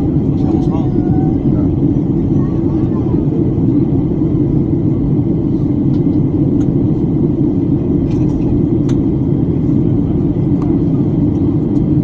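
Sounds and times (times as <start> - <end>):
airflow over fuselage: 0.0 - 12.0
airplane cabin engine rumble: 0.0 - 12.0.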